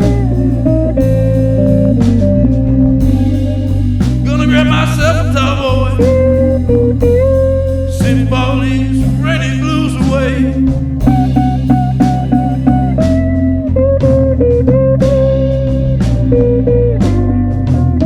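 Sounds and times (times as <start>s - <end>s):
bass line: 0.0s - 18.0s
blues guitar with sliding notes: 0.0s - 18.0s
steady beat: 0.0s - 18.0s.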